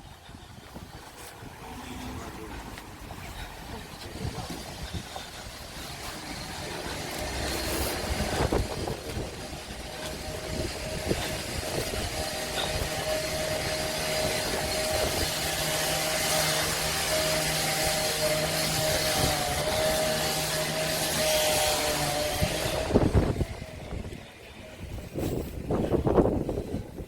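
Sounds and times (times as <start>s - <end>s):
street and wind noise: 0.0s - 27.0s
vehicle engine: 0.2s - 25.2s.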